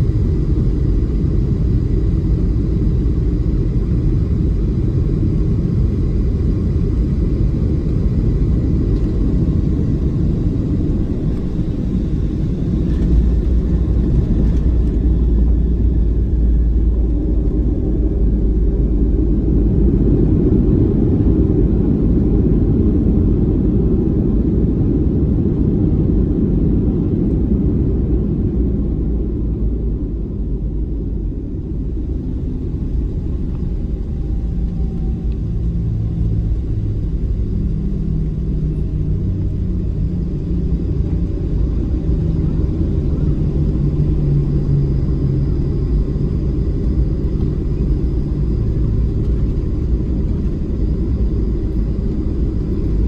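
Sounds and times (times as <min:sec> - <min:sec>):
airplane cabin low rumble: 0:00.0 - 0:53.0
faint high engine whine: 0:00.0 - 0:53.0.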